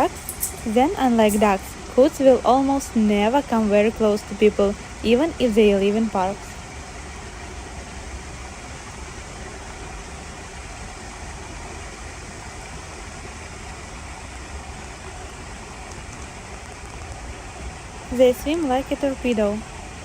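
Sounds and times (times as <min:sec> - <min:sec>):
even hiss: 0:00.0 - 0:20.0.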